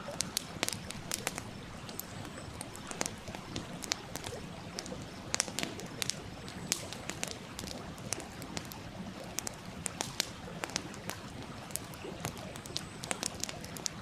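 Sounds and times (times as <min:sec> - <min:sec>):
stream flowing: 0:00.0 - 0:14.0
wood fire crackling: 0:00.0 - 0:14.0.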